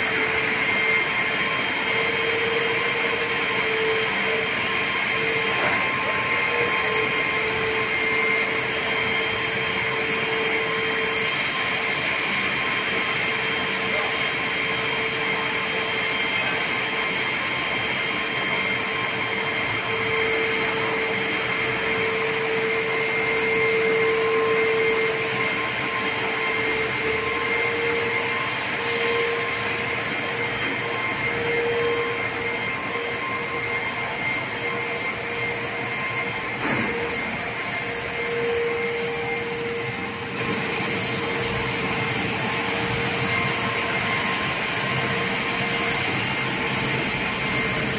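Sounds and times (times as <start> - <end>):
stone saw hiss and whine: 0.0 - 47.9.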